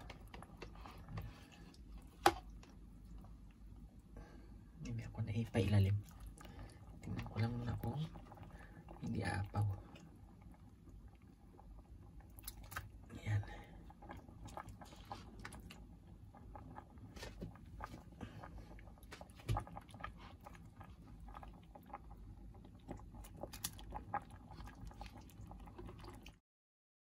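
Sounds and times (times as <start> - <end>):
broth simmering with pops: 0.0 - 26.4
low steady hum: 0.0 - 26.4.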